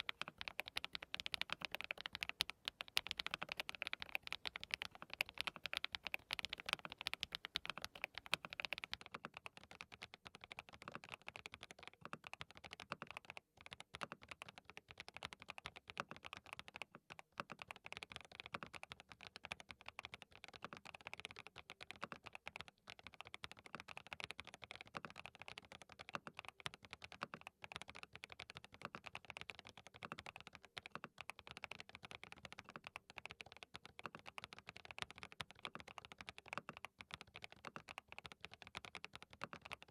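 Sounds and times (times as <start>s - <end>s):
keyboard typing clacks: 0.0s - 39.9s.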